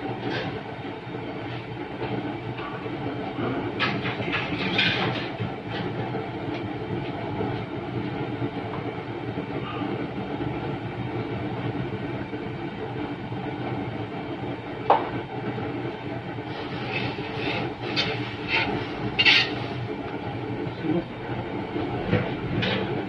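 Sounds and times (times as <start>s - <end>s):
gas burner rushing: 0.0s - 23.0s.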